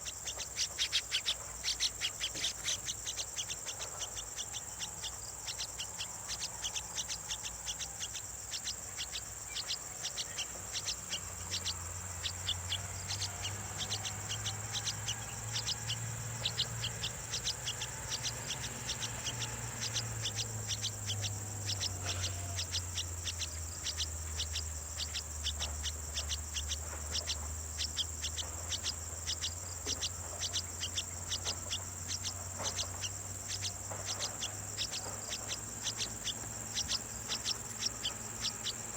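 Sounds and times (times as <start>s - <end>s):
rapid high chirps: 0.0s - 38.9s
high-pitched insect drone: 0.1s - 38.9s.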